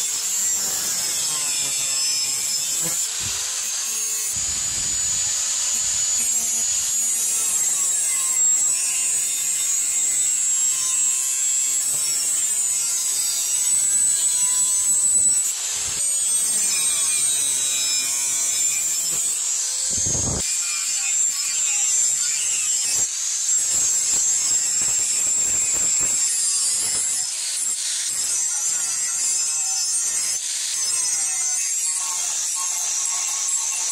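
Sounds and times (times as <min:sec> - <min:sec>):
angle grinder cutting metal: 0:00.0 - 0:33.9.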